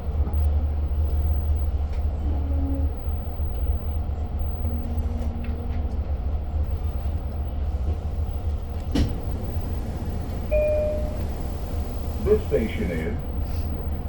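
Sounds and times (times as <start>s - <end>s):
train coach rumble: 0.0s - 14.0s.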